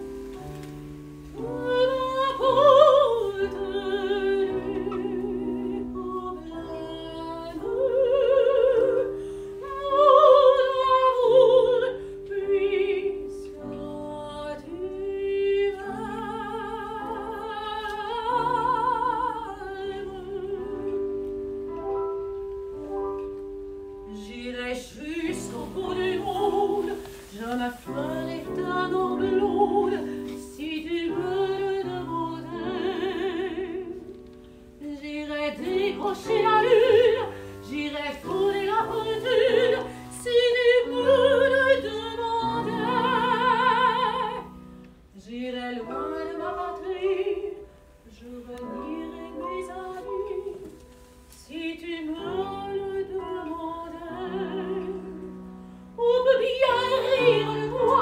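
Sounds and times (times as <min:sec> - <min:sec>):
digital piano: 0:00.0 - 0:58.0
soprano singing with vibrato: 0:01.4 - 0:21.5, 0:24.1 - 0:58.0.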